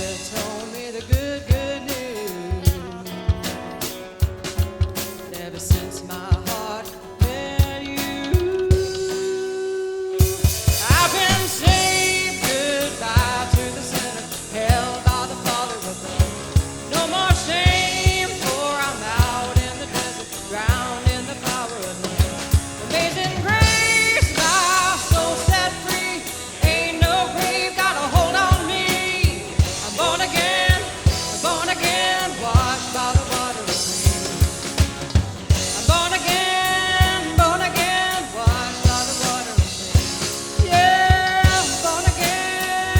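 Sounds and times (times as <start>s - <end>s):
person singing: 0.0s - 34.9s, 35.5s - 42.9s
drum kit beat: 0.0s - 42.9s
live band music: 0.0s - 42.9s.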